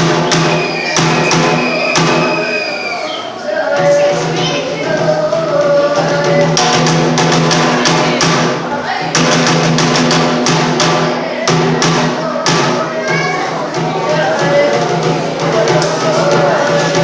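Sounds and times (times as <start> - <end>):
drum strokes: 0.0 - 17.0.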